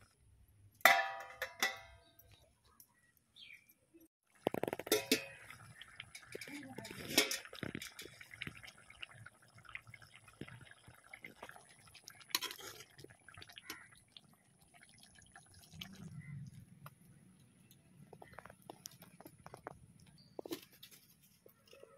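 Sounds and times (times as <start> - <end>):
curry bubbling and popping: 4.2 - 21.9.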